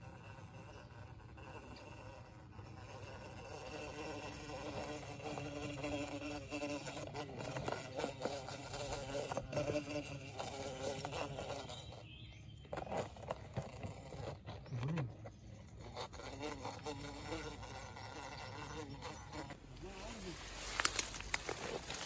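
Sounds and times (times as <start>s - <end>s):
bee buzzing: 0.0s - 22.0s.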